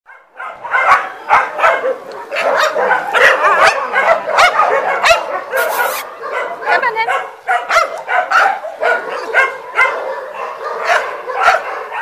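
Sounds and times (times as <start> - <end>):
dogs barking rapidly: 0.1 - 12.0.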